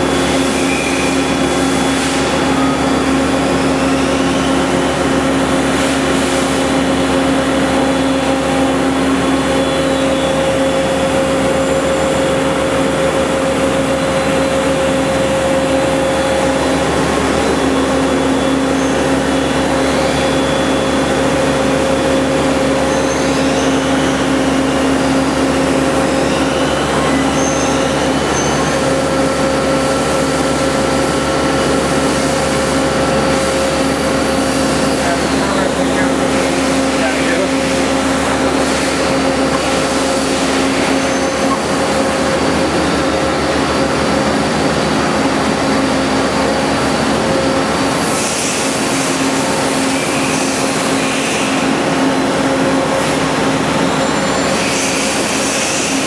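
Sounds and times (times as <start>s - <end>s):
machine hum with steady tones: 0.0s - 56.0s.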